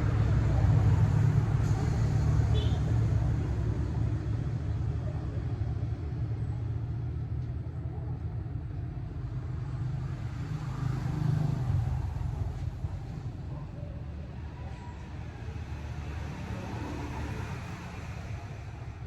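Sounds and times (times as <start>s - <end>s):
vehicle rumble and road noise: 0.0s - 19.0s.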